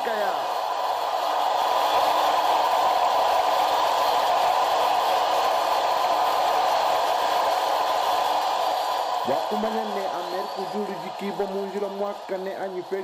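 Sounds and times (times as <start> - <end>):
crowd cheering and applauding: 0.0 - 13.0.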